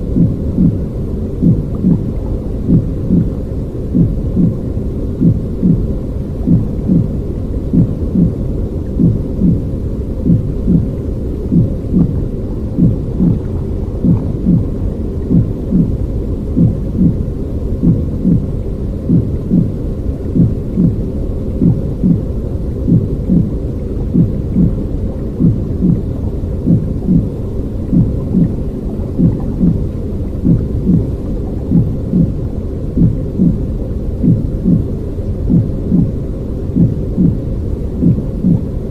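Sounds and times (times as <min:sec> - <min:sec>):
low rumbling noise: 0:00.0 - 0:38.9
soft regular pulse: 0:00.0 - 0:38.9.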